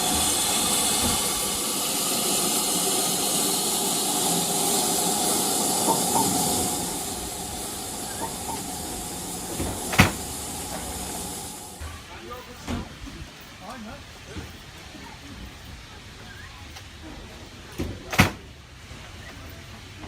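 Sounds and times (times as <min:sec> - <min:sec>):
model steam train hiss: 0:00.0 - 0:20.0
wheels clicking on rail joints: 0:00.0 - 0:20.0.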